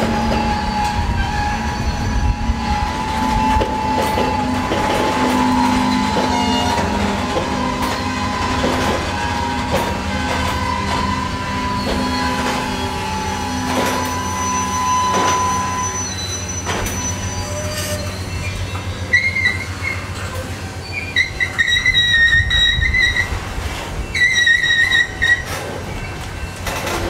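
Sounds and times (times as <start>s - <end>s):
freight train rumbling past: 0.0s - 27.0s
high-pitched metal squealing: 0.0s - 27.0s
train wheel clacks: 2.7s - 27.0s.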